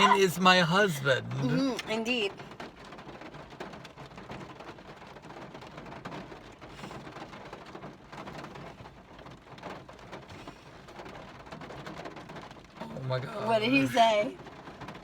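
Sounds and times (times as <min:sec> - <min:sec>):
rain falling on a surface: 0:00.0 - 0:15.0.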